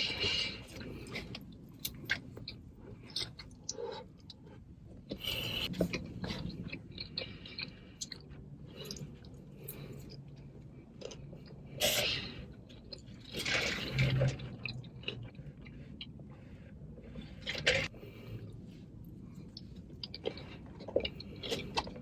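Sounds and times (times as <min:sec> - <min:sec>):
chewing food: 0:00.0 - 0:22.0.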